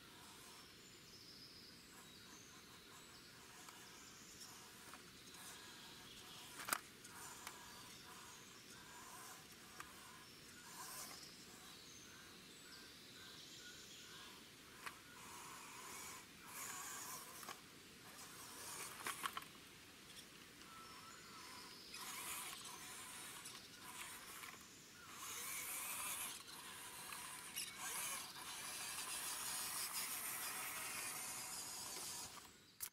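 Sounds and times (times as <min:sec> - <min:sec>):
toy car motor whirring: 0:00.0 - 0:01.2, 0:01.8 - 0:32.9.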